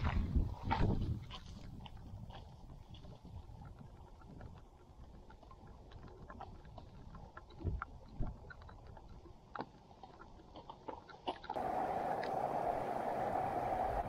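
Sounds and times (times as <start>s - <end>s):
wind rumbling on microphone: 0.0s - 9.4s, 11.6s - 14.0s.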